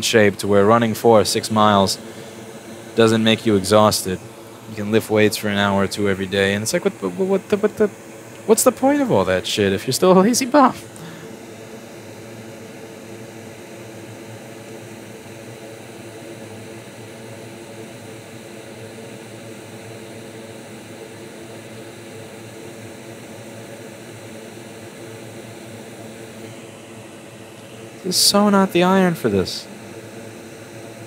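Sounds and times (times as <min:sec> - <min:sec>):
electric fan whooshing: 0:00.0 - 0:31.0.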